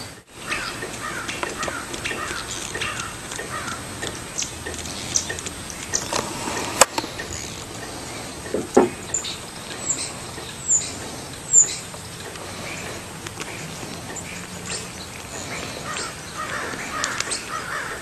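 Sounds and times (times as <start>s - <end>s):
birds chirping downward: 0.0s - 18.0s.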